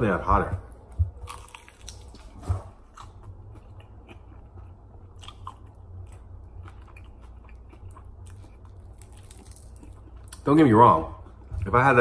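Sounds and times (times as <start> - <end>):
person chewing and biting food: 0.8 - 10.5.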